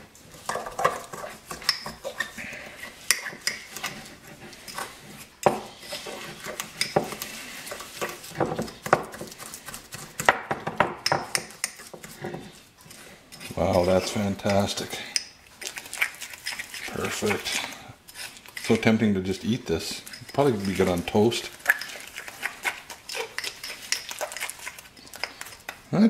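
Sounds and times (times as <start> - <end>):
utensil stirring sticky paste: 0.0 - 25.9.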